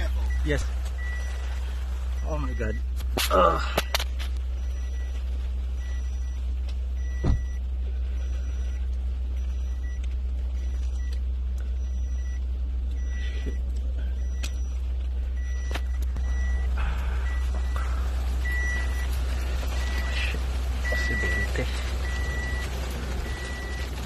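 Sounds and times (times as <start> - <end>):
electronic warning beep: 0.0 - 1.4, 2.2 - 2.9, 3.8 - 17.8, 18.4 - 24.0
steady low rumble: 0.0 - 24.0.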